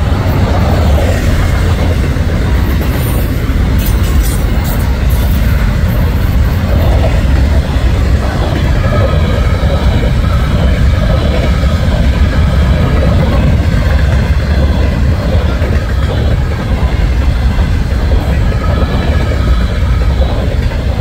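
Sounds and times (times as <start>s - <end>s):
freight train rumbling past: 0.0s - 21.0s
steel wheels rumbling on rails: 0.0s - 21.0s.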